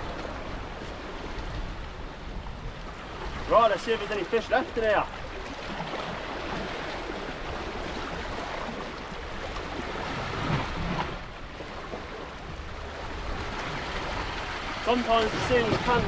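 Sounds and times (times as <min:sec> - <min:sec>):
sea waves washing against rocks: 0:00.0 - 0:16.0.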